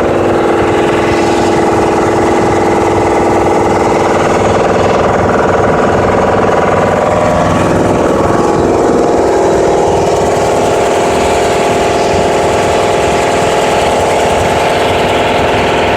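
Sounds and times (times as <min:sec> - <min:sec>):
gas engine running: 0:00.0 - 0:15.9.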